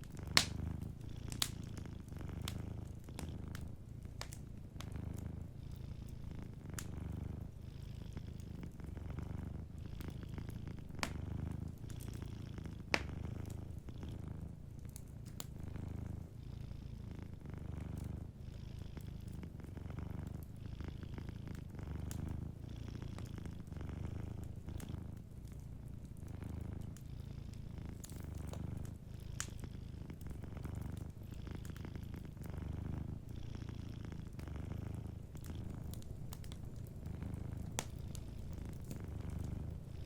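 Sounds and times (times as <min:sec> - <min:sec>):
wood fire crackling: 0:00.0 - 0:16.4, 0:17.3 - 0:20.6, 0:21.2 - 0:40.0
cat purring: 0:00.0 - 0:40.0.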